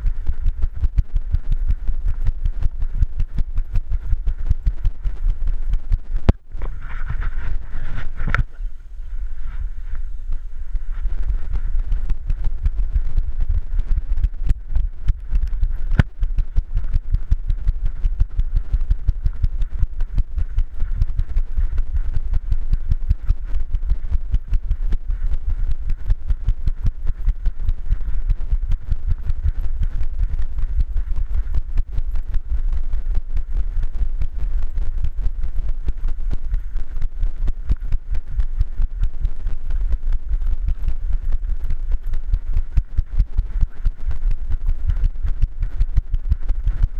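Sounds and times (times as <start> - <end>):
camera thumping and jostling: 0.0 - 46.9.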